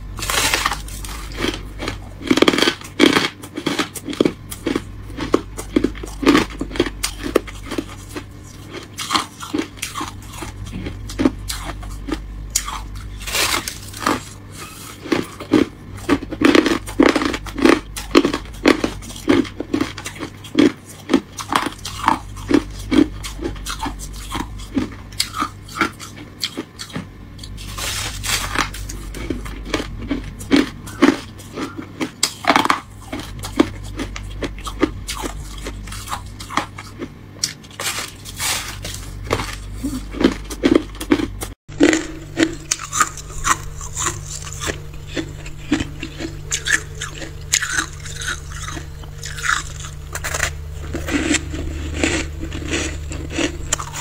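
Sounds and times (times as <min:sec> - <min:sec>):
ice being chewed: 0:00.1 - 0:54.0.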